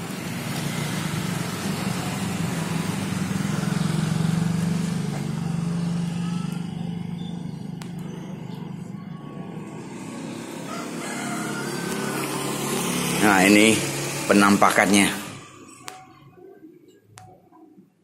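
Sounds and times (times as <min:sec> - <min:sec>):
vehicle engine passing: 0:00.0 - 0:16.4.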